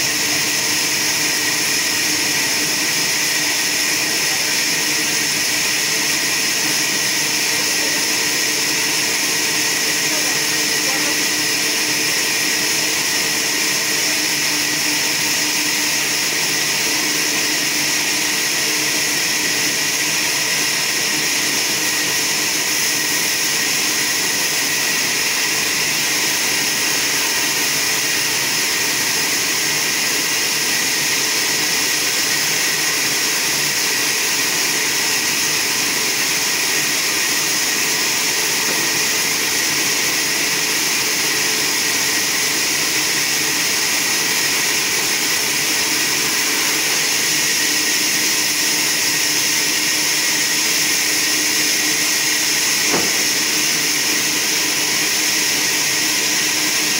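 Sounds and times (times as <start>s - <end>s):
band saw cutting log: 0.0s - 56.9s.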